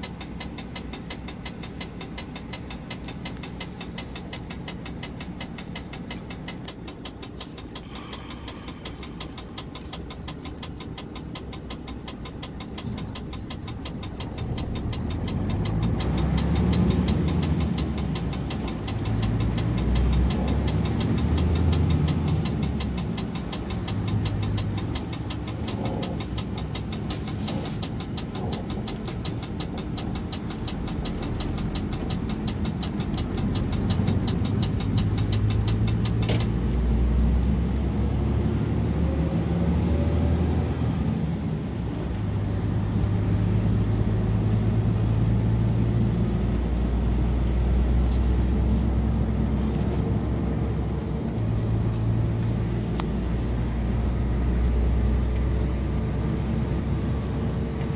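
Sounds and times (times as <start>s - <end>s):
fast even ticking: 0.0s - 38.1s, 44.1s - 56.7s
car engine rumble: 0.0s - 57.9s
road noise: 0.0s - 57.9s.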